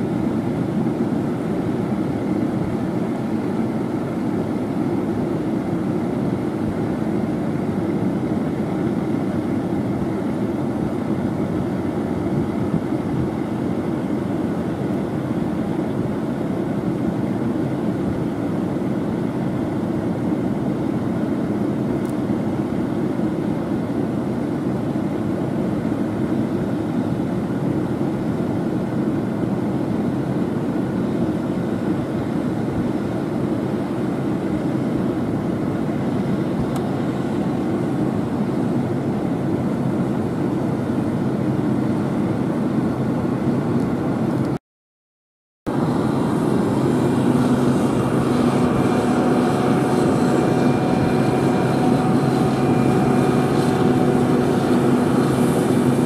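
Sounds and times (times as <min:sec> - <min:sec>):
combine harvester droning: 0:00.0 - 0:44.6, 0:45.7 - 0:56.0.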